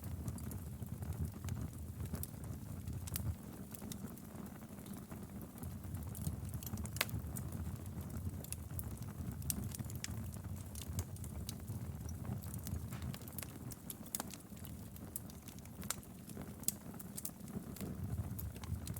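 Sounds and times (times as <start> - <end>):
firewood crackling and popping: 0.0 - 18.9
low rumble of flames: 0.0 - 18.9.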